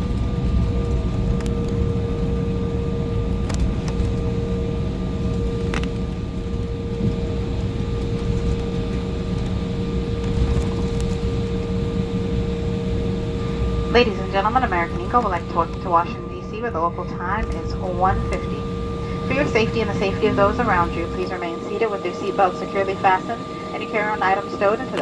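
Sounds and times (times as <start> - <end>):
jet engines and airflow rumble: 0.0 - 25.0
steady cabin hum: 0.0 - 25.0.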